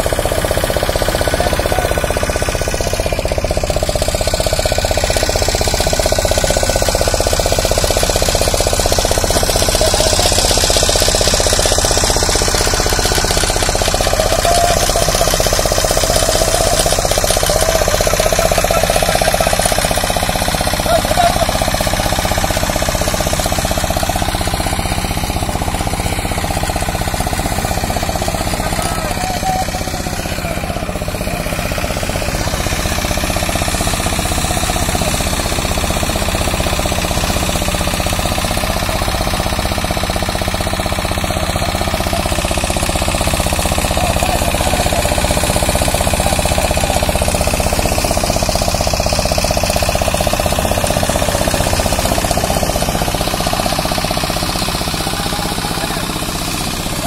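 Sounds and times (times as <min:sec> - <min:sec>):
outboard engine idling: 0:00.0 - 0:57.0.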